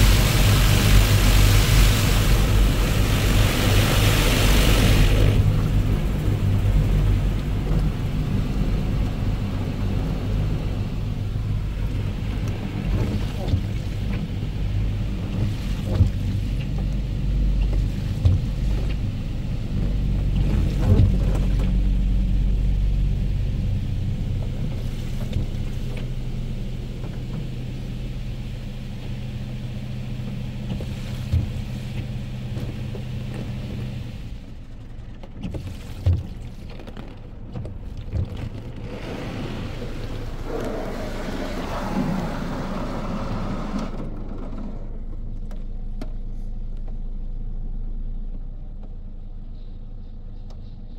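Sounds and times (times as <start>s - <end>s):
car wash spraying noise: 0.0s - 34.8s, 37.9s - 44.4s
car wash machine hum: 0.0s - 48.9s.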